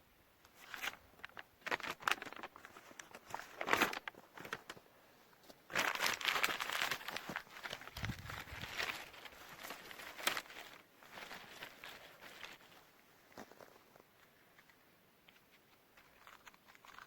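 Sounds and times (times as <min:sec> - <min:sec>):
paper crumpling and tearing: 0:00.6 - 0:04.8, 0:05.7 - 0:12.8, 0:14.6 - 0:17.0.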